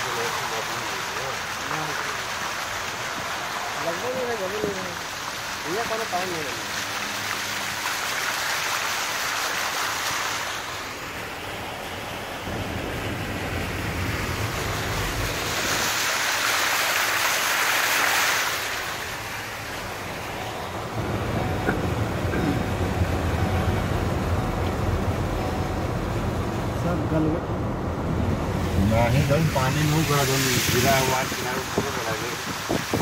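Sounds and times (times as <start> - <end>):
vehicle engine and tyre rumble: 0.0 - 33.0
water rushing and spraying: 0.0 - 33.0.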